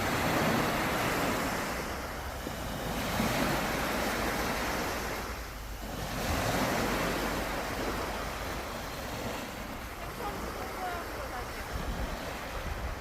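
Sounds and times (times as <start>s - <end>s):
sea waves breaking on shore: 0.0s - 13.0s
wind on microphone: 0.0s - 13.0s.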